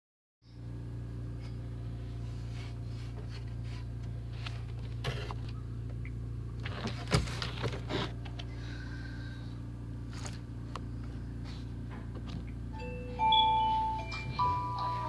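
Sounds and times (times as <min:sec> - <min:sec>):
low hum: 0:00.4 - 0:15.0.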